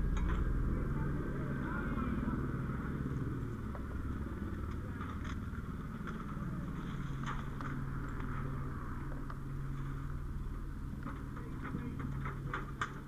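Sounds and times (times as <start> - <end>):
fire engine running: 0.0 - 13.0.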